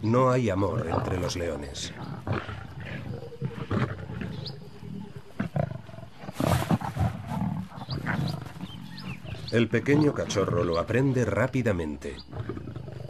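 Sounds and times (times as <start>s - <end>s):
lions growling: 0.0s - 13.0s.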